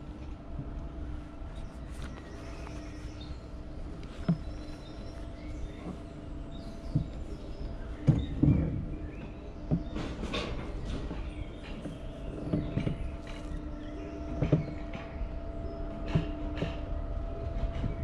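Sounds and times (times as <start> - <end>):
coaster sled humming on steel rail: 0.0 - 18.0.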